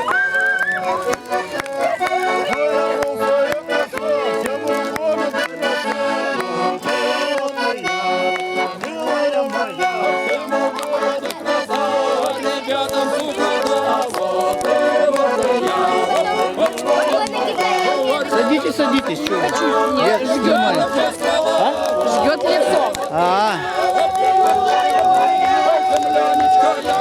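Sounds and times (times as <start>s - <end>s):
accordion playing folk tune: 0.0s - 27.0s.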